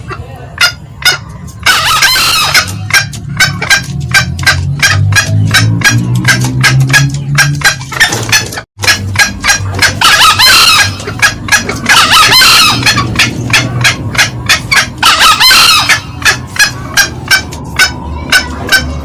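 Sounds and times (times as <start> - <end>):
junglefowl cackling calls: 0.0 - 19.0
junglefowl crowing: 0.0 - 19.0.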